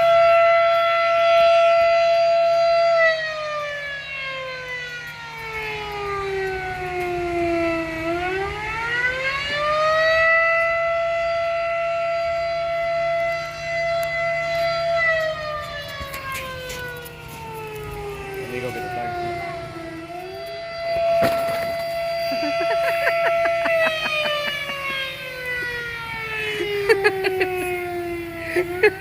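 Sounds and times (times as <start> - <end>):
warning siren falling and rising: 0.0 - 29.0.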